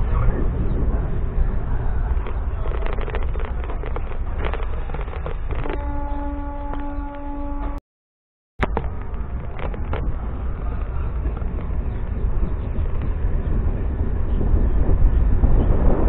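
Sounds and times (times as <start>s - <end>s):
wind buffeting microphone: 0.0s - 7.1s, 8.6s - 16.0s
train rumbling: 0.0s - 7.8s, 8.6s - 16.0s.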